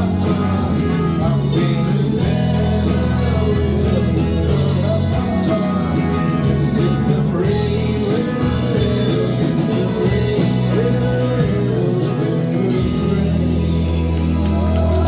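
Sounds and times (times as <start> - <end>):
bass: 0.0 - 15.0
guitar: 0.0 - 15.0
person singing: 0.0 - 15.0.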